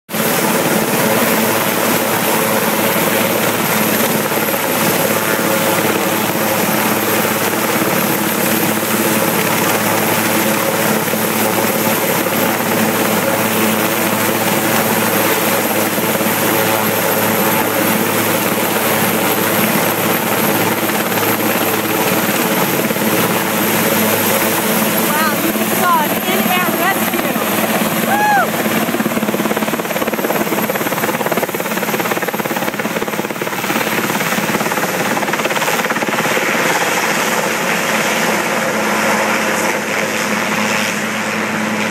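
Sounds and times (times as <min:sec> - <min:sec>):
helicopter rotor and engine drone: 0:00.1 - 0:41.9.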